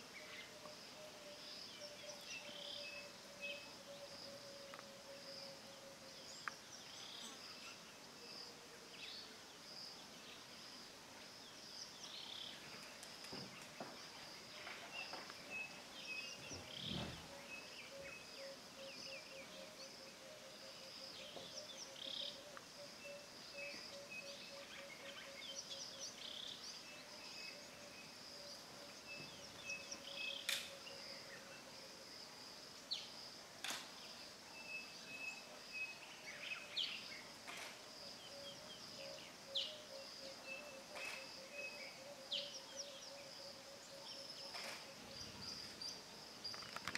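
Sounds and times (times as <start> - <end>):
high insect trill: 0.0 - 46.9.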